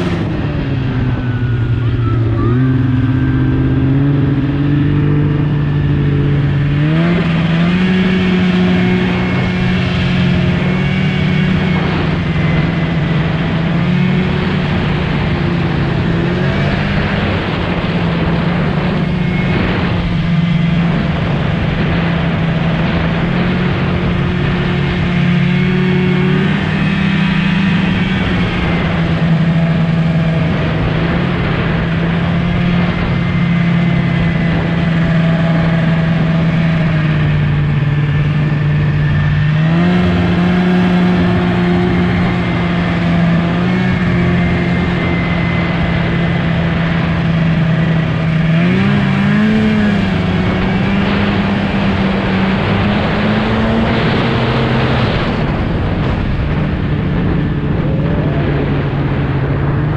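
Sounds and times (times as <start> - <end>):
rushing noise: 0.0 - 59.9
snowmobile engine running: 0.0 - 59.9.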